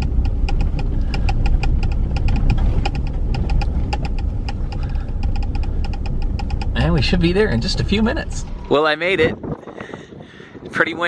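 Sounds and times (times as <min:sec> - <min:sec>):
truck cab rattles and clicks: 0:00.0 - 0:09.6
engine and tyres rumbling: 0:00.0 - 0:11.0.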